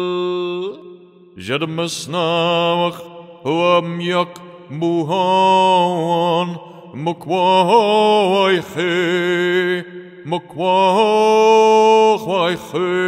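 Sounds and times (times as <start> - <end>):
man chanting drawn-out syllables: 0.0 - 13.0.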